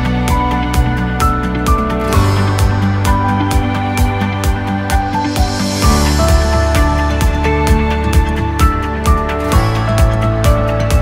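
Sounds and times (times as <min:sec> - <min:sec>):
upbeat corporate background music: 0:00.0 - 0:11.0.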